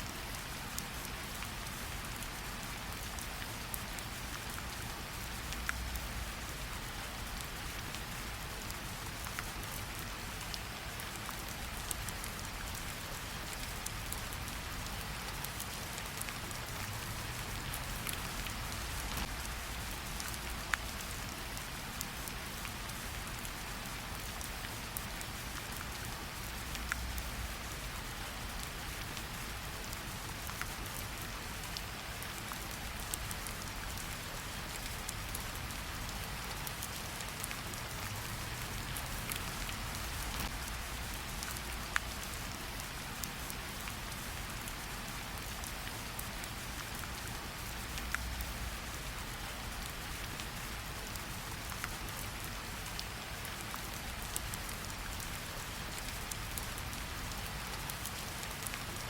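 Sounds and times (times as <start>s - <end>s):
rain pattering on leaves: 0.0s - 59.0s.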